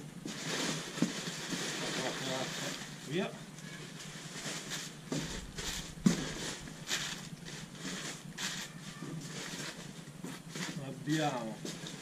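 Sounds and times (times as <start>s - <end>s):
packing paper rustling and crinkling: 0.2s - 12.0s.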